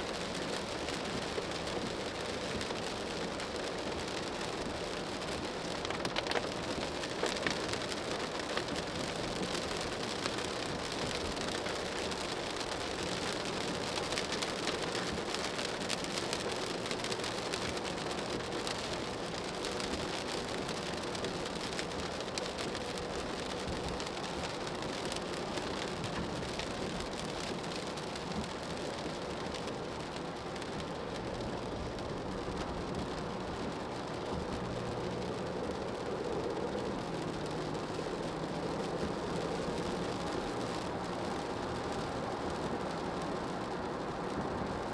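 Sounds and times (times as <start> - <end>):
rain on car roof: 0.0 - 44.9
tyre and road noise: 0.1 - 44.9.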